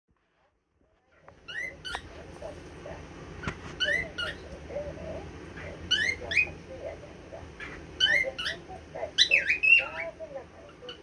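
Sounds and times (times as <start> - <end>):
soft low chattering: 0.3 - 11.0.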